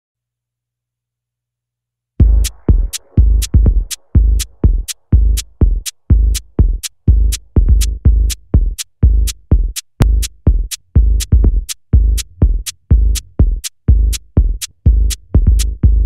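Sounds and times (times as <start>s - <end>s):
drum machine kick: 2.2s - 16.0s
dub techno track: 2.2s - 16.0s
hi-hat ticks: 2.2s - 16.0s.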